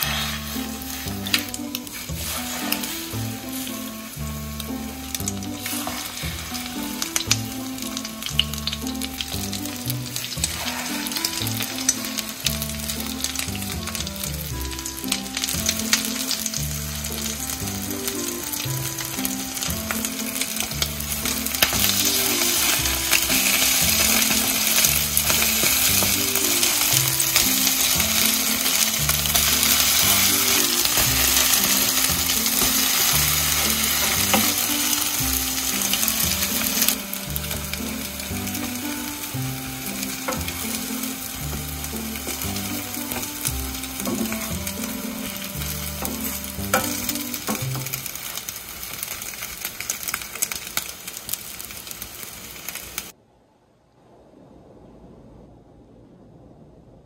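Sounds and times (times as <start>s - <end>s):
pancakes sizzling in oil: 0.0s - 53.2s.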